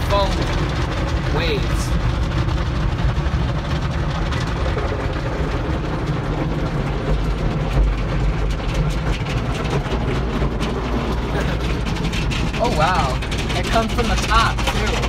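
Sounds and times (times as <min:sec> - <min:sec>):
car wash low rumble: 0:00.0 - 0:15.0.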